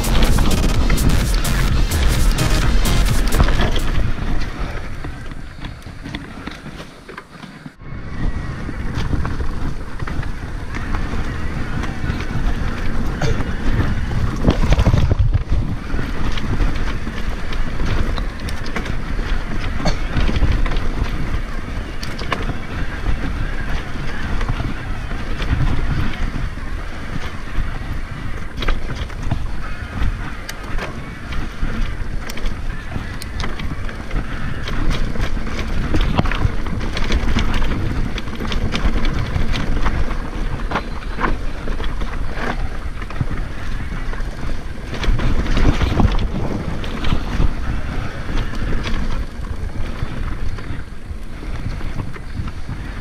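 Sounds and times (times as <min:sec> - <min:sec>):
constant rumble: 0:00.0 - 0:53.0
bike clicks and rattles: 0:03.6 - 0:53.0
wind buffeting microphone: 0:07.7 - 0:53.0.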